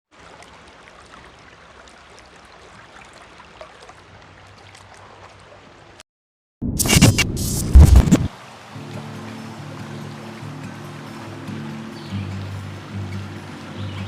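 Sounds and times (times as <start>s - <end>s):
flowing river water: 0.1s - 6.0s, 8.2s - 14.0s.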